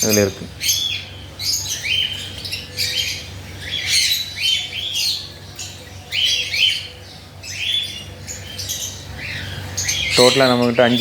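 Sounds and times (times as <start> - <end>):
cockatiels squawking: 0.0 - 11.0.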